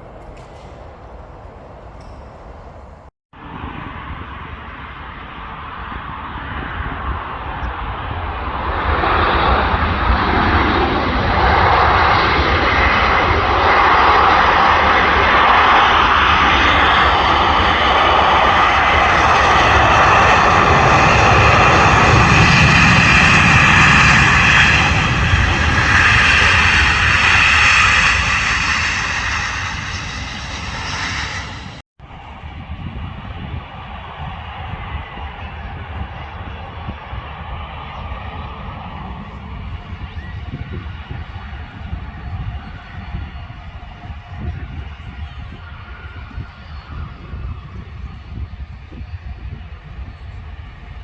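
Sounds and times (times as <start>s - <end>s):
jet airliner taking off: 0.0s - 51.0s.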